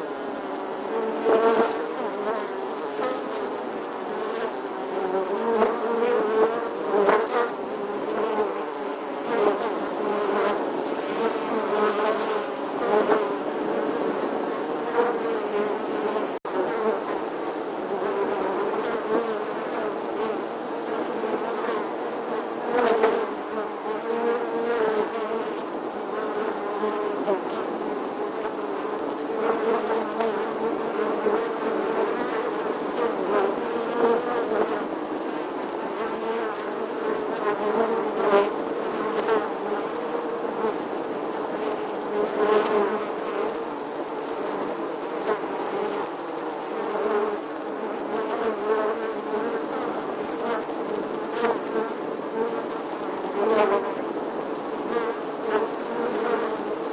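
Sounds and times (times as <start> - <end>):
bee buzzing: 0.0 - 56.9.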